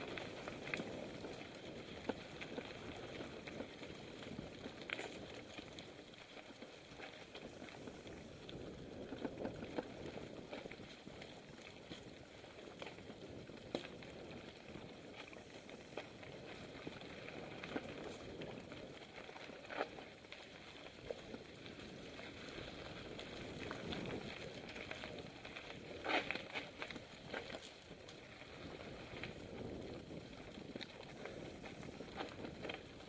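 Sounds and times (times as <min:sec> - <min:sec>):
bike tyres on dirt trail: 0:00.0 - 0:33.0.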